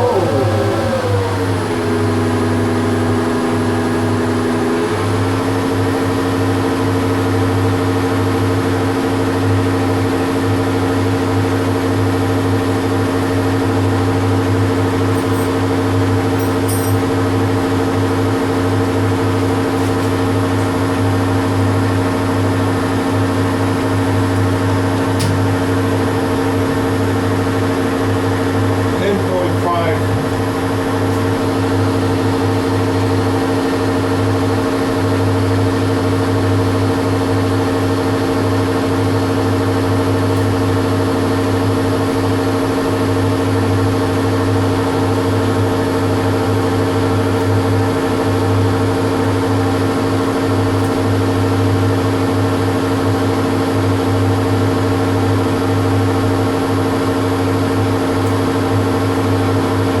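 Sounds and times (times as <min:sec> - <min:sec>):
metal lathe humming: 0:00.0 - 0:07.2, 0:11.6 - 1:00.0.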